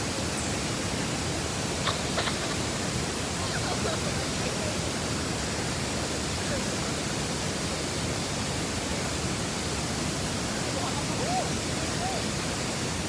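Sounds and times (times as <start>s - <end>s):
waterfall rushing: 2.0s - 13.0s.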